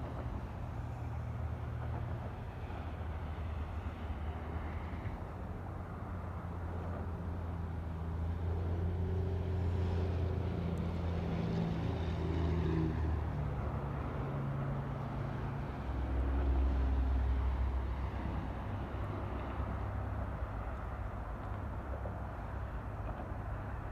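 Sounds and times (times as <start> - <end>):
road traffic: 0.0 - 23.9.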